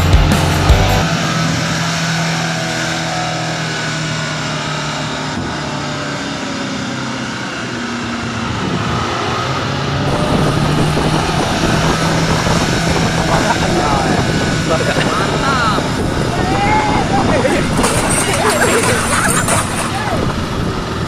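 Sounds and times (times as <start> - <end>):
heavy truck engine droning: 0.0 - 21.0.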